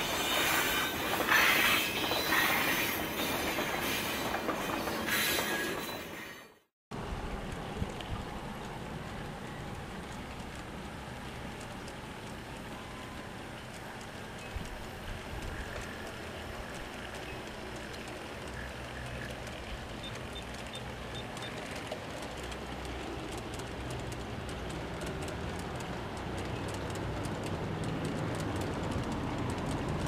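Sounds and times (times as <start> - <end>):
freight train rumbling past: 0.0 - 30.0
wheels clicking over rail joints: 0.0 - 30.0.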